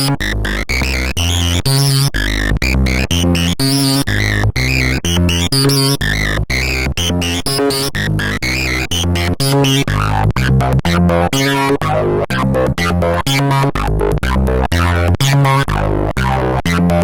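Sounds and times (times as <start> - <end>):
synthesizer bass sequence: 0.0 - 17.0.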